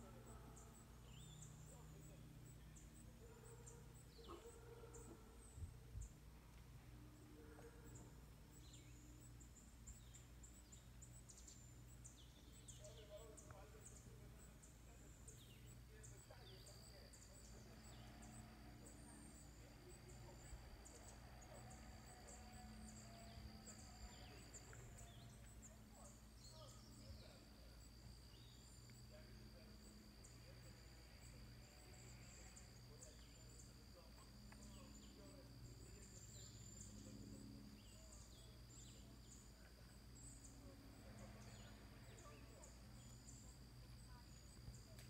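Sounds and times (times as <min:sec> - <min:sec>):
high-pitched insect trill: 0:00.0 - 0:05.0, 0:07.4 - 0:45.0.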